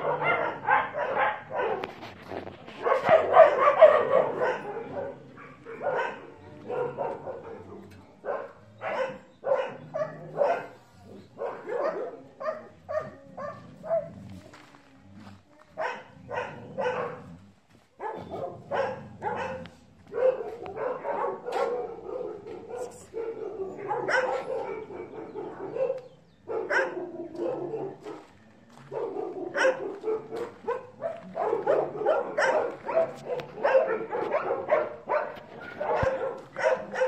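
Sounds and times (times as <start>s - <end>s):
dogs barking: 0.0s - 14.6s, 15.7s - 17.4s, 18.0s - 37.0s.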